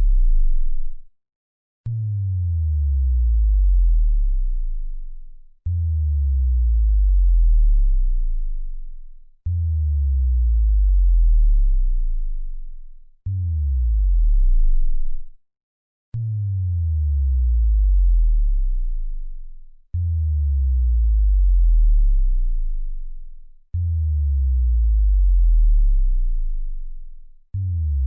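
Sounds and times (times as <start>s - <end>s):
synthesized sub-bass drops: 0.0s - 1.1s, 1.9s - 15.4s, 16.2s - 28.0s.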